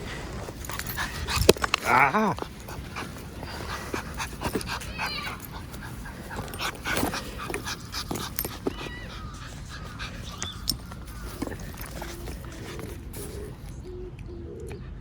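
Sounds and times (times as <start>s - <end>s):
rustling: 0.0s - 13.8s
dog whimpering: 0.8s - 13.6s.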